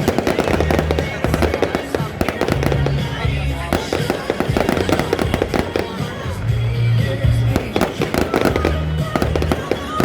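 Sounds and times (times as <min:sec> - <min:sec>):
fireworks bursting and crackling: 0:00.0 - 0:10.0
music with heavy bass: 0:00.0 - 0:10.0.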